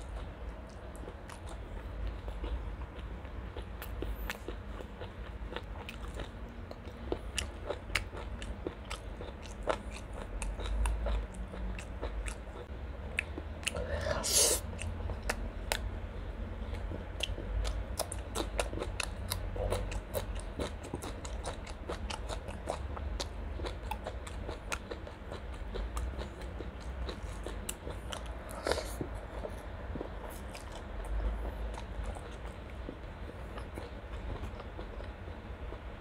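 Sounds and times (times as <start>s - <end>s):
chewing and biting food: 0.0s - 13.9s, 14.7s - 16.0s, 16.6s - 36.0s.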